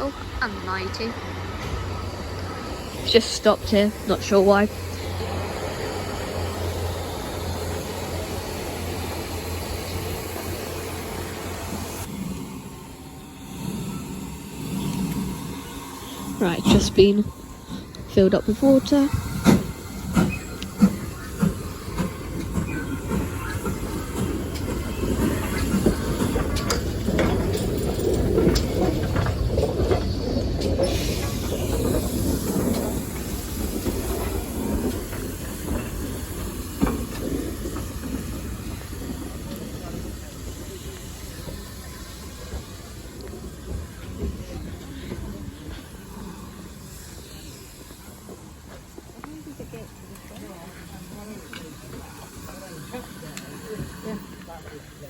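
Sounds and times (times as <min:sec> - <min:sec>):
locomotive rumbling and hissing: 0:00.0 - 0:55.0.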